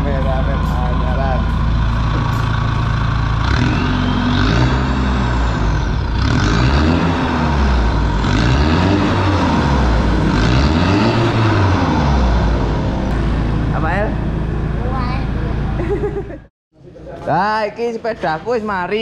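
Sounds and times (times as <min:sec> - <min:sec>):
diesel engine revving: 0:00.0 - 0:16.5.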